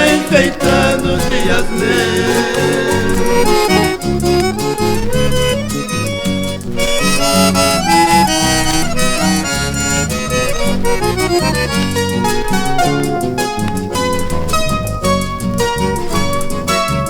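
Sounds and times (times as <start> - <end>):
accordion melody: 0.0 - 17.0
steady accompaniment: 0.0 - 17.0.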